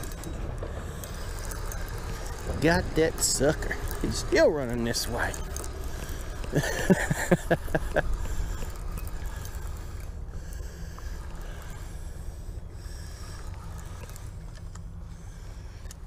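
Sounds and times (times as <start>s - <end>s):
fishing reel cranking: 0.0s - 16.0s
steady low rumble: 0.0s - 16.0s.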